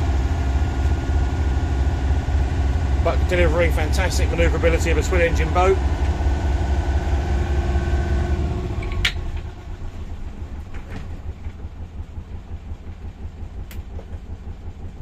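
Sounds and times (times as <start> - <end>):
diesel boat engines running: 0.0 - 15.0.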